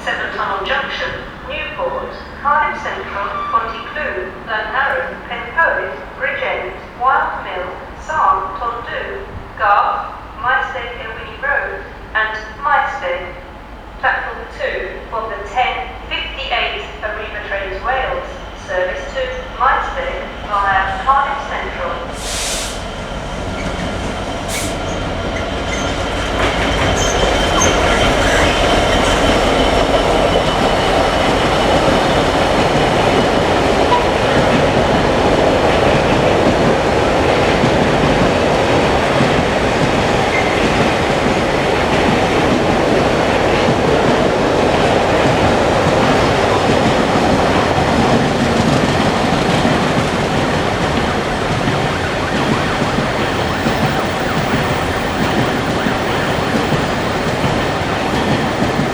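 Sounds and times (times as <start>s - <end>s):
freight train wheels rumbling on rail: 0.0s - 58.9s.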